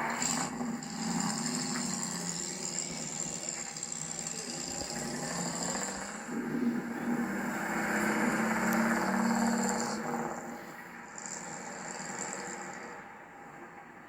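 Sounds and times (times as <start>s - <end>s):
car engine running: 0.0s - 13.6s.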